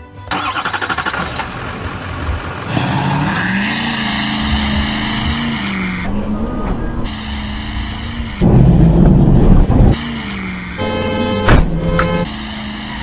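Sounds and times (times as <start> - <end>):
vehicle engine running: 0.3 - 11.1.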